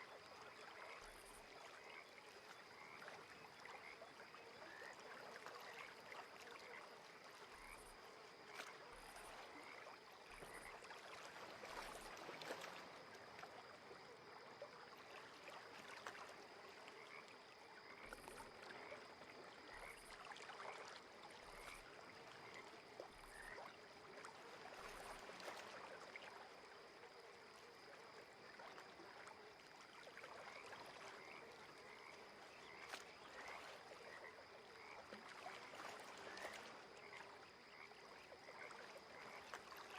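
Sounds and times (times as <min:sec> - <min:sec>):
water lapping and trickling: 0:00.0 - 0:39.9.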